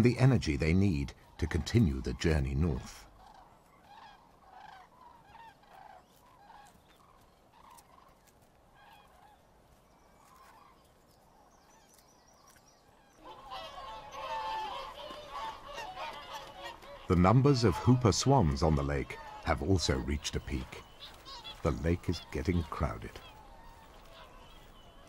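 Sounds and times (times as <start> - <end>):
swans honking: 0.0 - 9.5, 12.9 - 25.0
faint bird calls: 0.0 - 25.0.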